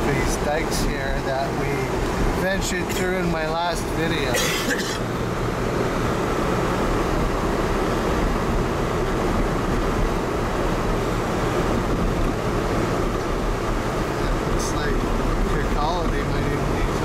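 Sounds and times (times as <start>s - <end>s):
car road noise from inside: 0.0s - 17.0s.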